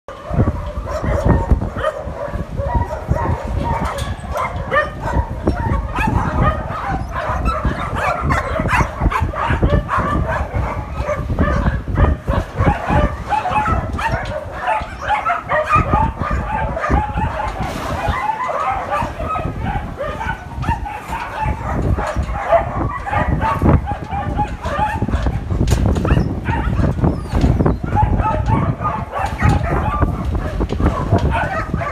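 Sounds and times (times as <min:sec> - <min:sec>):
many dogs barking and yipping: 0:00.1 - 0:31.9.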